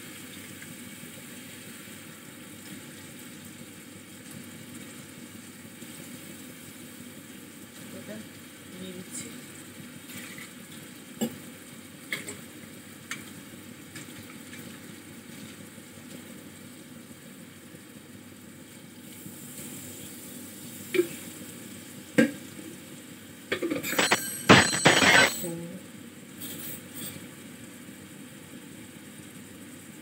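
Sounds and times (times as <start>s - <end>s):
vegetables sizzling in a pan: 0.0s - 30.0s.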